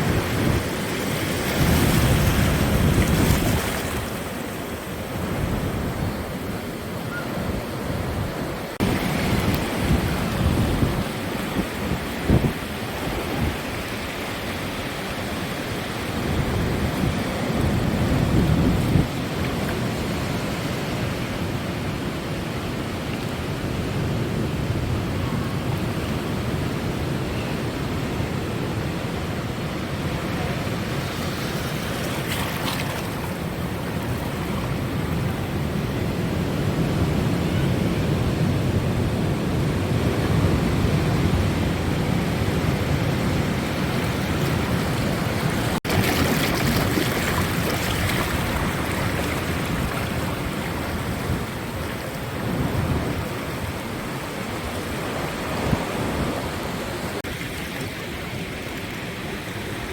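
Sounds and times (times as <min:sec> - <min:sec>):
ocean surf washing ashore: 0:00.0 - 0:59.9.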